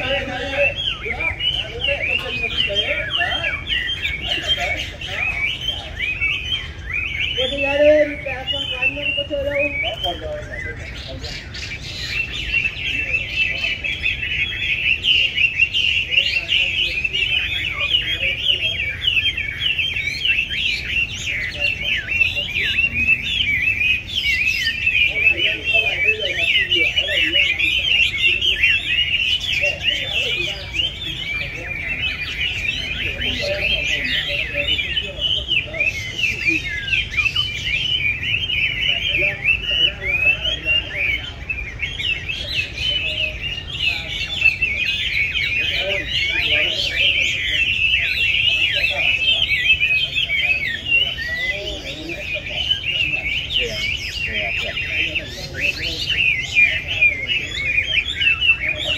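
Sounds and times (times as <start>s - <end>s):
bird singing whistled notes: 0.0s - 58.9s.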